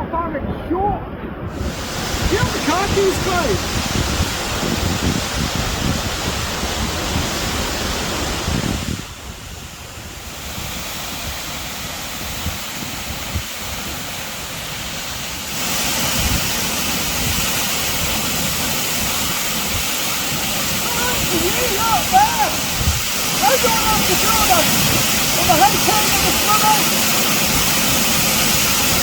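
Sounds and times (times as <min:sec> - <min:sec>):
wind buffeting microphone: 0:00.0 - 0:29.0
waterfall rushing: 0:01.5 - 0:29.0.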